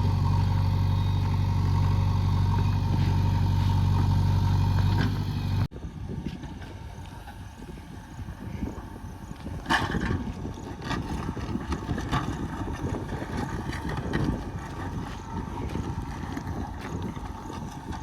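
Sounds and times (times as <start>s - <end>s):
diesel machinery rumbling: 0.0s - 18.0s.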